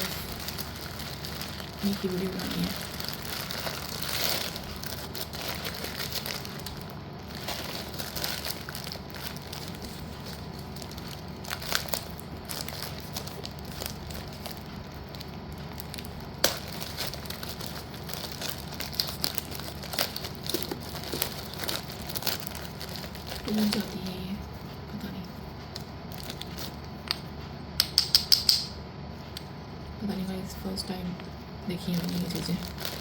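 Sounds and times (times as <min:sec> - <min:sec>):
plastic packaging crinkling: 0:00.0 - 0:24.3, 0:25.8 - 0:27.1, 0:31.7 - 0:33.0.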